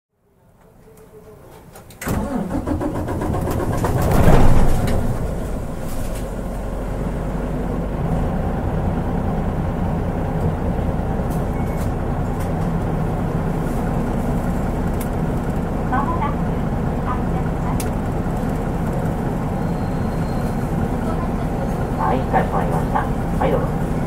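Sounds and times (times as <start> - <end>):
diesel bus engine starting and idling: 0.2 - 24.0.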